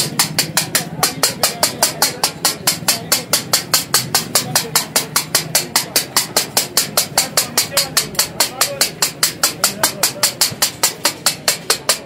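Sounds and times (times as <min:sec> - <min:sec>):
steel blade clacking on griddle: 0:00.0 - 0:12.0.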